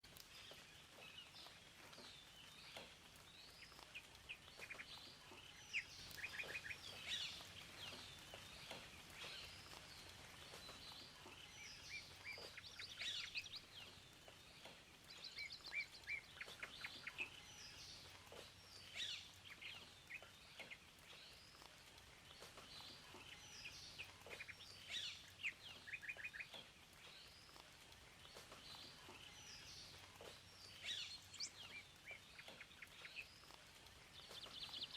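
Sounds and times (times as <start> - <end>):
faint steady hiss: 0.0 - 34.9
songbirds singing and chirping: 0.0 - 34.9.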